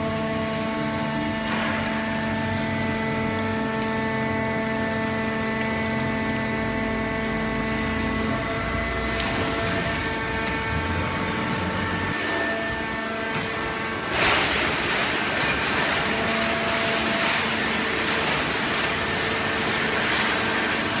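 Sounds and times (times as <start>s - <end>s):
machine hum with steady tones: 0.0s - 21.0s.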